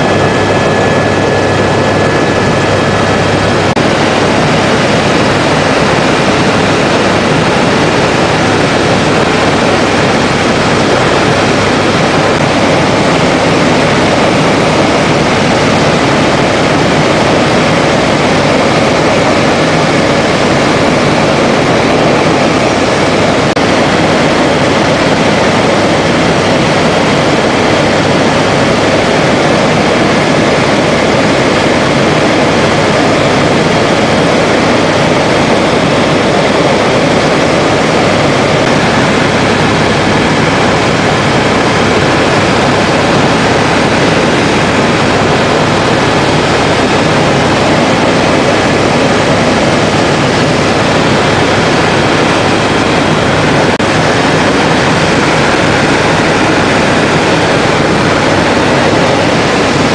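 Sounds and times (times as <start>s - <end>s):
aircraft cabin engine noise: 0.0s - 59.9s.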